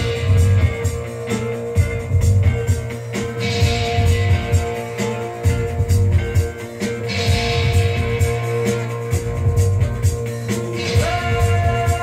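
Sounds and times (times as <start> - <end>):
guitar music from cassette: 0.0 - 12.0.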